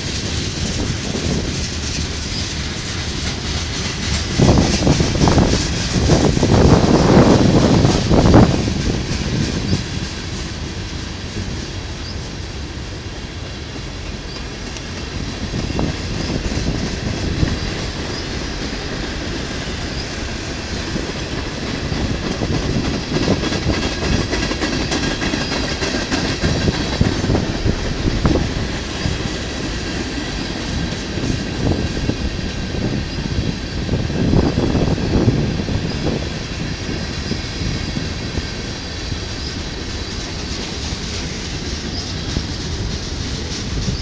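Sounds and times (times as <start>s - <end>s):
freight train rumble: 0.0s - 44.0s
steel wheels clacking on rails: 0.0s - 44.0s.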